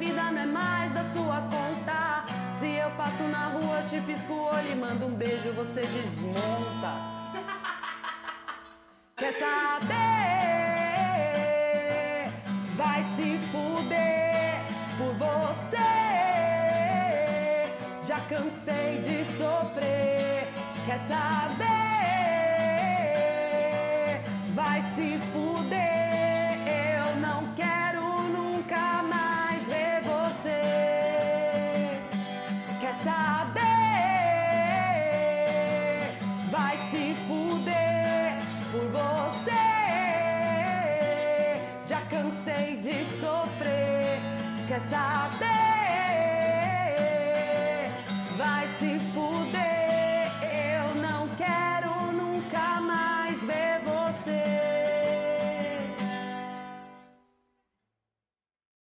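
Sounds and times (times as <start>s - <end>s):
woman singing: 0.0s - 7.9s, 9.2s - 56.7s
acoustic guitar strumming: 0.0s - 57.3s.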